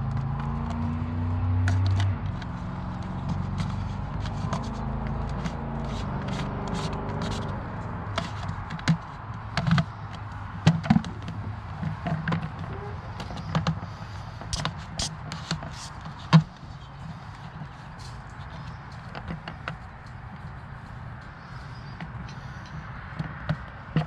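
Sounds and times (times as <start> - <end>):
knocks and clatter of objects: 0.0 - 21.3, 23.0 - 24.0
low engine hum: 0.0 - 24.0.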